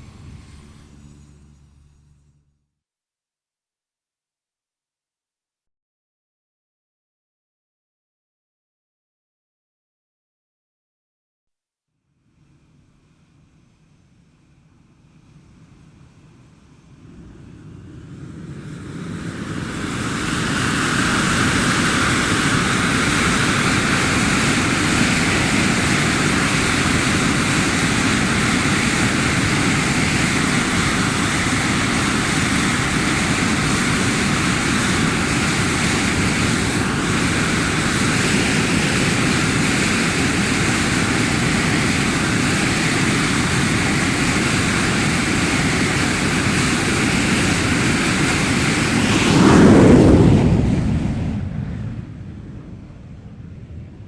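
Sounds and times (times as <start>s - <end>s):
jet engine whine and roar: 0.0s - 2.3s, 12.4s - 54.0s.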